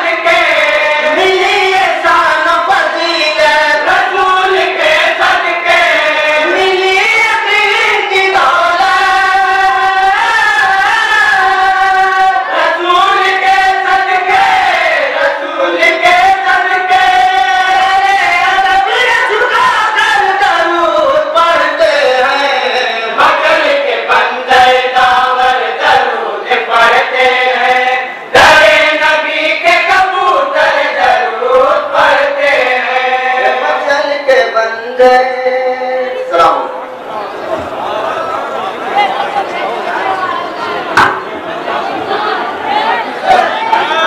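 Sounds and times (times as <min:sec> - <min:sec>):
men chanting in unison: 0:00.0 - 0:36.2.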